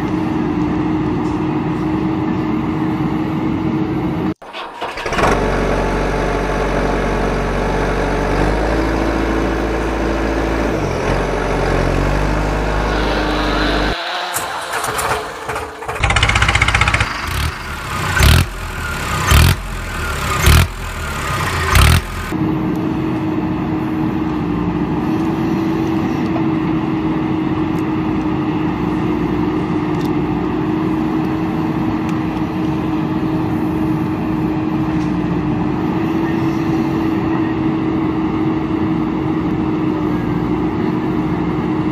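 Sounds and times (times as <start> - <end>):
engine drone: 0.0 - 41.9.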